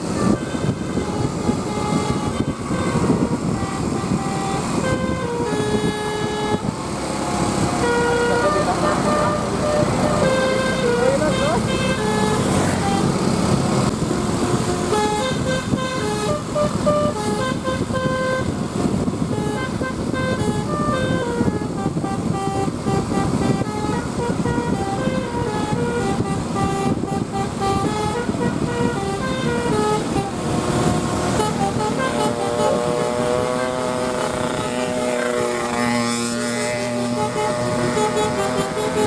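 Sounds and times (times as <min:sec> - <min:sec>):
bus engine and road noise: 0:00.0 - 0:39.0
multi-tone bus air horn tune: 0:00.0 - 0:39.0.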